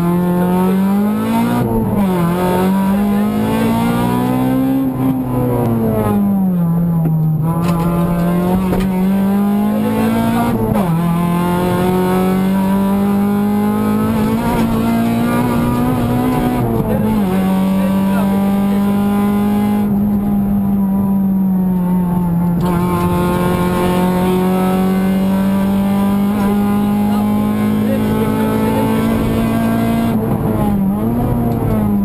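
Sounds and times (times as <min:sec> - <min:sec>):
car engine revving under load: 0:00.0 - 0:32.0.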